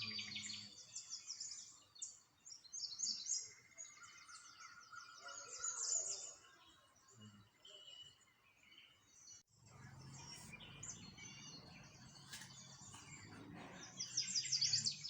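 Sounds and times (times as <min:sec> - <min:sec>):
songbirds chirping in chorus: 0:00.0 - 0:15.0.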